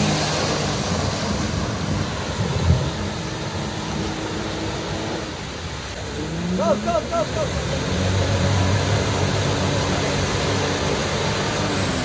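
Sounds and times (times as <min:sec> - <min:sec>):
engine running under load: 0:00.0 - 0:12.0
muddy water splashing: 0:00.0 - 0:12.0.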